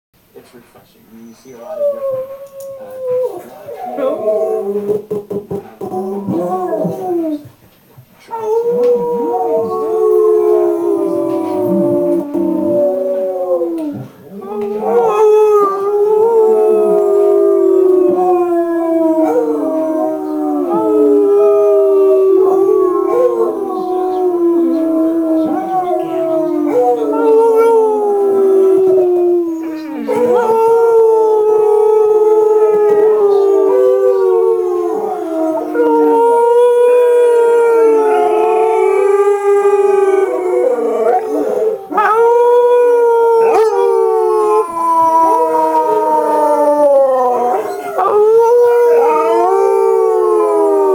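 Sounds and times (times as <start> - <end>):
dog howling from a video: 1.5 - 5.2, 5.8 - 7.5, 8.3 - 50.9
live dog howling along: 1.6 - 5.2, 5.8 - 7.5, 8.3 - 50.9.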